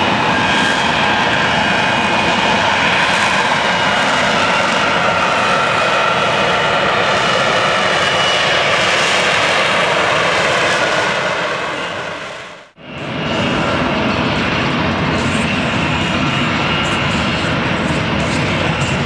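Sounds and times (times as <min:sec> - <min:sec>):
jet engine roar with whine: 0:00.0 - 0:19.0.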